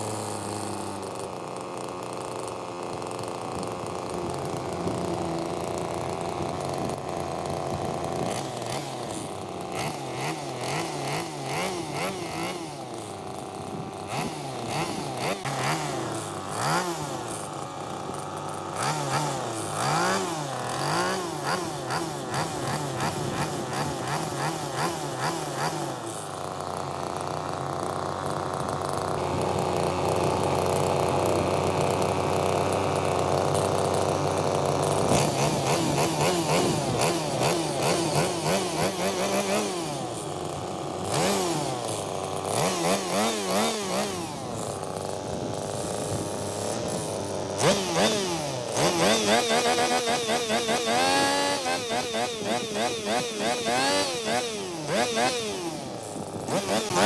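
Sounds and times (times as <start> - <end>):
lawn mower engine revving: 0.0 - 57.0.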